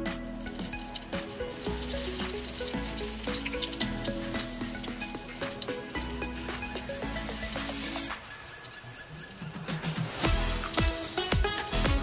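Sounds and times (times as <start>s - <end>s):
instrumental background music: 0.0s - 12.0s
omelette sizzling in hot oil: 0.1s - 12.0s.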